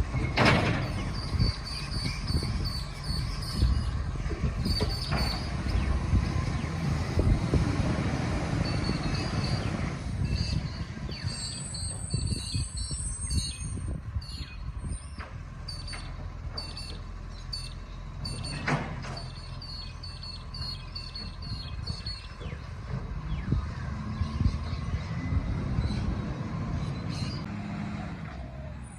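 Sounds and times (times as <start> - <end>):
birds chirping: 0.0 - 7.2, 8.4 - 27.5
garbage truck engine rumbling: 0.0 - 28.9.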